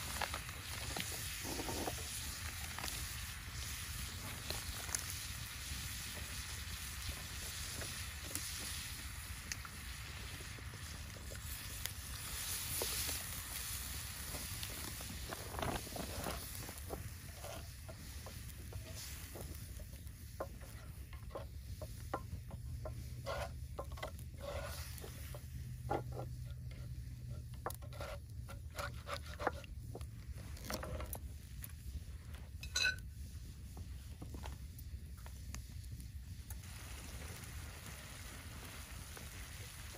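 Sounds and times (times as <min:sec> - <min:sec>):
spatula scraping skillet: 0:00.0 - 0:34.5
faint sizzling: 0:00.0 - 0:39.9.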